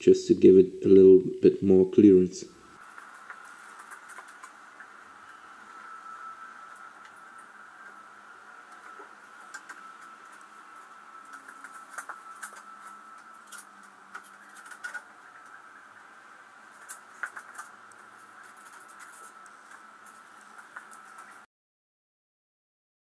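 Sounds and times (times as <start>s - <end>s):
faint high hum: 0.0s - 21.4s.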